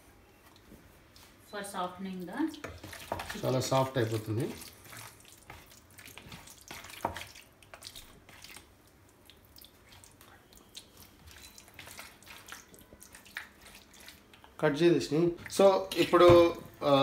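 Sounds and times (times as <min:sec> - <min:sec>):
hand squishing wet chicken: 0:02.5 - 0:16.2.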